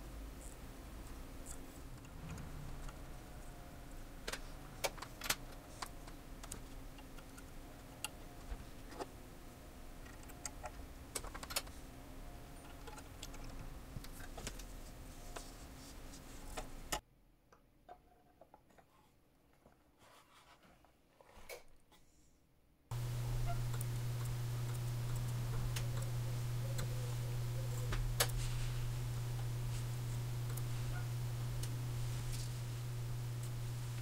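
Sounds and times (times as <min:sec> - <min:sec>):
steady low hum: 0:00.0 - 0:17.0, 0:22.9 - 0:34.0.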